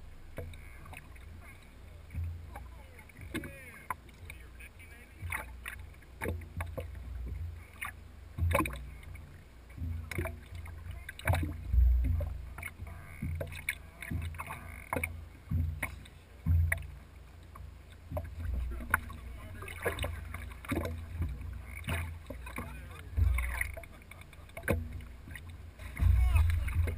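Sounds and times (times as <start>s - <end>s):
fish splashing: 0.0s - 26.9s
water sloshing against boat: 0.0s - 26.9s
low thumps and knocks: 2.1s - 4.2s, 5.2s - 7.6s, 8.3s - 23.9s, 24.5s - 26.9s.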